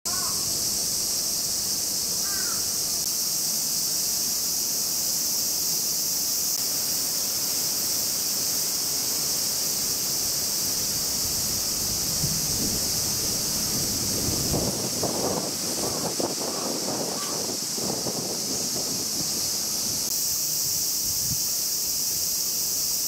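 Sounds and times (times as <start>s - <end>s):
cicadas buzzing in chorus: 0.0s - 23.0s.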